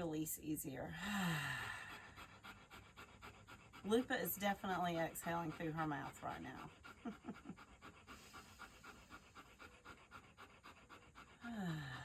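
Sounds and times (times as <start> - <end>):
dog panting: 1.4 - 12.0.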